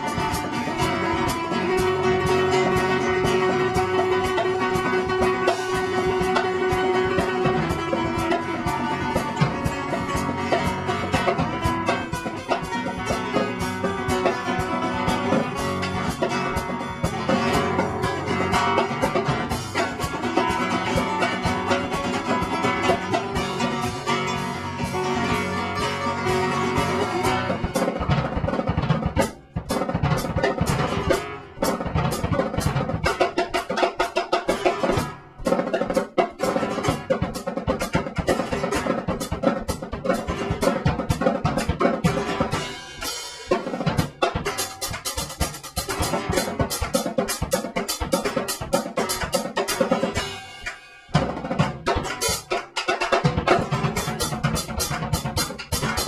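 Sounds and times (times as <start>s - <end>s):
drum kit: 0.0s - 56.0s
strummed acoustic guitars: 0.0s - 56.0s.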